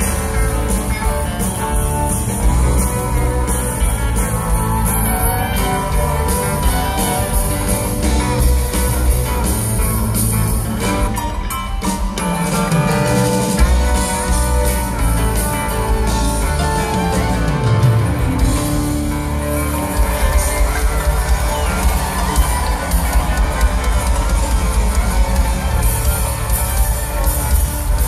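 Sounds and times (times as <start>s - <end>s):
guitars: 0.0s - 28.0s
live country band playing: 0.0s - 28.0s.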